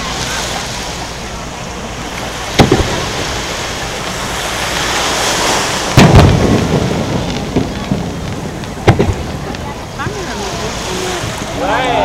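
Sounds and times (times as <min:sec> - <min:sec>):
fireworks booming: 0:00.0 - 0:11.6.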